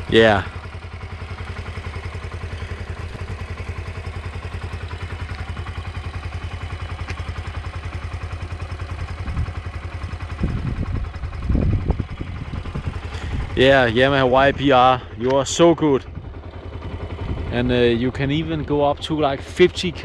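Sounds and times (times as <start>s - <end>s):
low rumbles: 0.0s - 20.0s
motorcycle engine idling: 0.0s - 20.0s.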